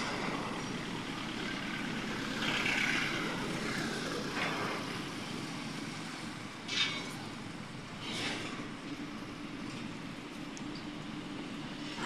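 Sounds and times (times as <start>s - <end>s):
vehicles driving past on dirt road: 0.0s - 12.0s.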